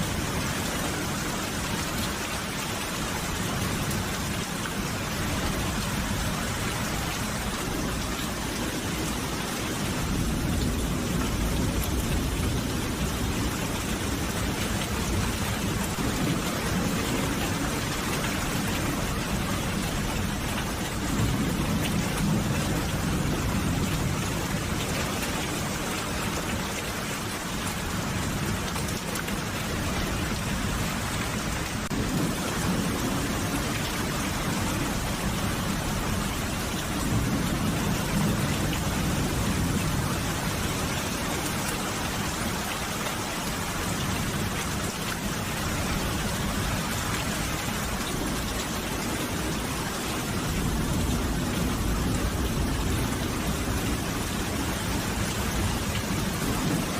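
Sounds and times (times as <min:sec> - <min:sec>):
heavy rainfall: 0:00.0 - 0:56.9.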